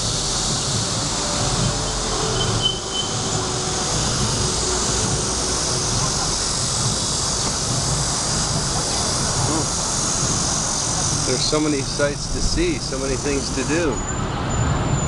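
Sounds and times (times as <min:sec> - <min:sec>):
constant high hiss: 0:00.0 - 0:14.0
low traffic rumble: 0:00.0 - 0:15.0.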